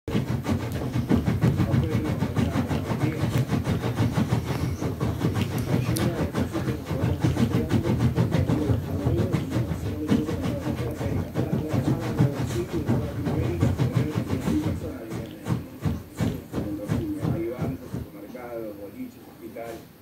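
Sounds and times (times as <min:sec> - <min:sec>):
scratching of cloth: 0:00.1 - 0:18.7.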